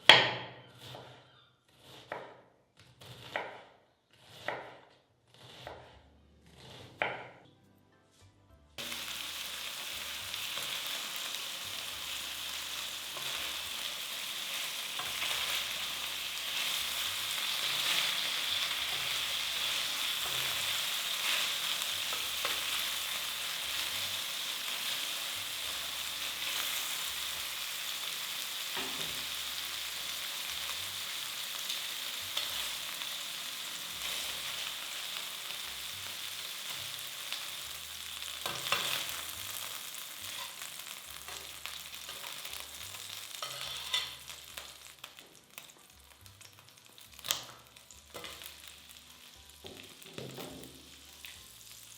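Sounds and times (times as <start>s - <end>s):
food sizzling in frying pan: 8.8s - 51.9s.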